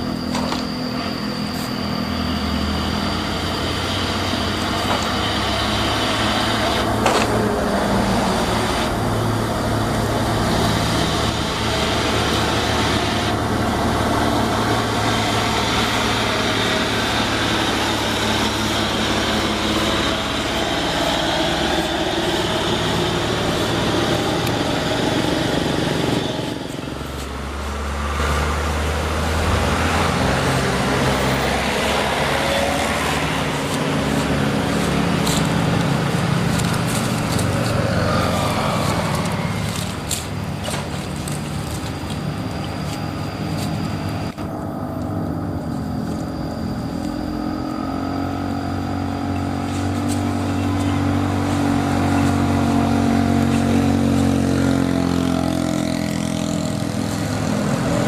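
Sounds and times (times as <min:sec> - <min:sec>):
toy truck motor running: 0:00.0 - 0:58.0.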